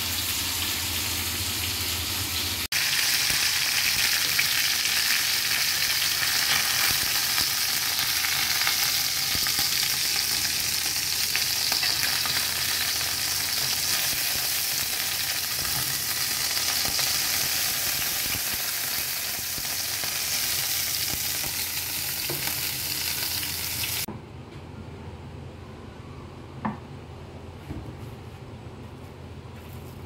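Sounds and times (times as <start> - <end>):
chicken sizzling in hot oil: 0.0 - 24.1.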